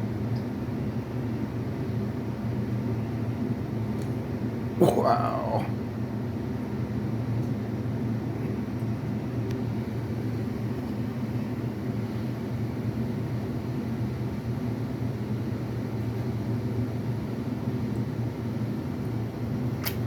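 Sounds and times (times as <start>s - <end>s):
low mechanical hum with rushing: 0.0s - 20.0s.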